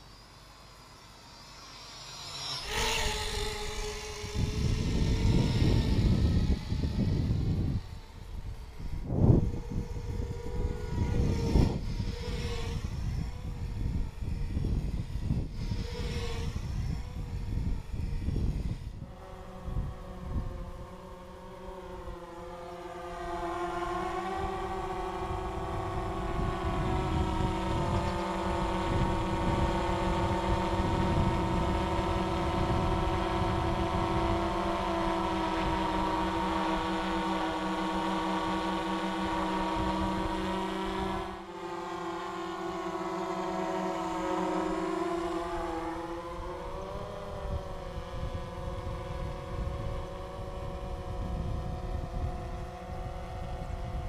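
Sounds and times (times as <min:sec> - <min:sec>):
drone propellers whining: 0:00.0 - 0:54.0
wind rumble on microphone: 0:02.7 - 0:54.0.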